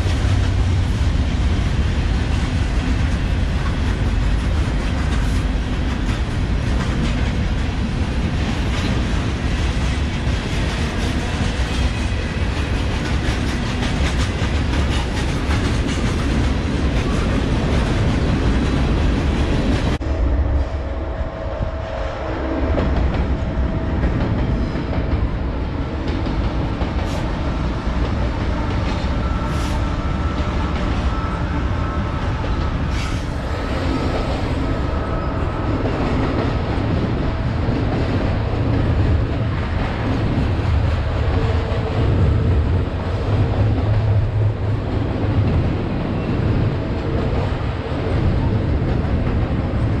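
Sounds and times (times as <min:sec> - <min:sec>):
diesel locomotives passing: 0:00.0 - 0:50.0
steel wheels rumbling on rail: 0:00.0 - 0:50.0.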